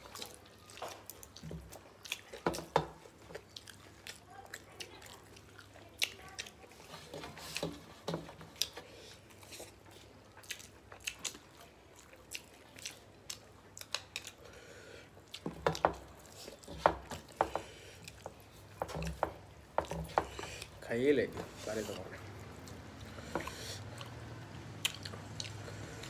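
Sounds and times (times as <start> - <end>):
chewing and lip smacks: 0.0 - 7.8, 8.4 - 20.8, 22.0 - 26.0
wet squelches of food mixed by hand: 0.0 - 26.0.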